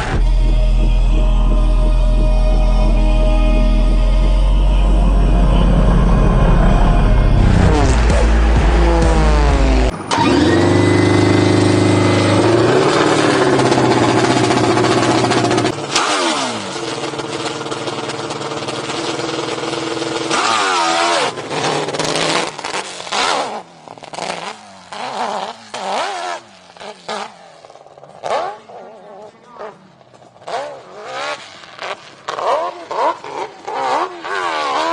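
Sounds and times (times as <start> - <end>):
dirt bike engine revving: 2.3 - 34.9.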